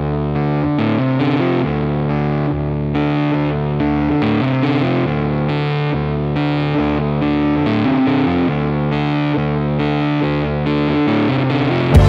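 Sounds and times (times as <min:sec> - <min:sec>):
distorted electric guitar riff: 0:00.0 - 0:12.0.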